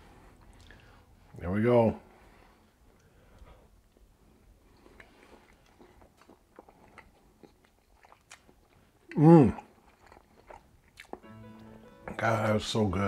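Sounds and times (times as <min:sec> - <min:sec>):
man chewing: 0:00.1 - 0:01.2, 0:02.7 - 0:12.1.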